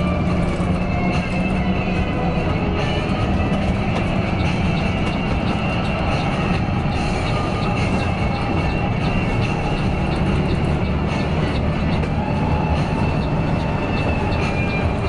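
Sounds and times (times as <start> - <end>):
coach engine and road drone: 0.0 - 15.0.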